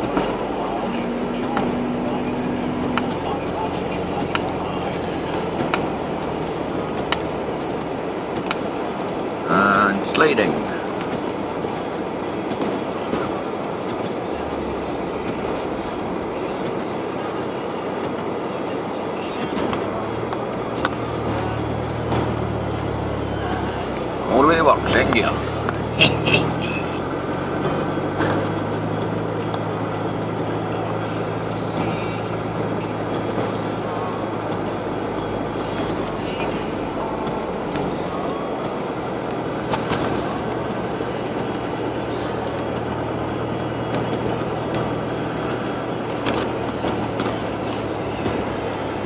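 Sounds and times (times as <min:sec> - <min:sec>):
car cabin rumble on snowy road: 0:00.0 - 0:49.0
low engine hum: 0:00.0 - 0:49.0.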